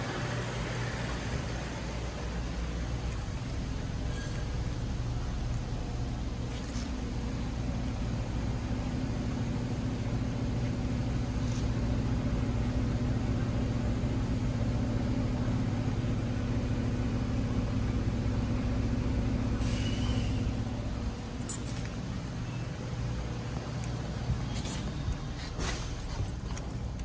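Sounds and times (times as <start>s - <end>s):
car engine idling at exhaust: 0.0s - 27.0s.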